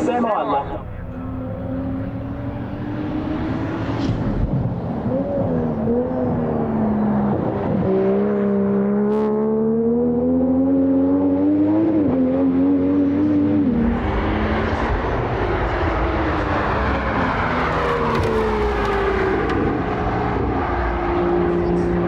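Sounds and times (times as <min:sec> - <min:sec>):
race car engine accelerating: 0:00.7 - 0:22.0.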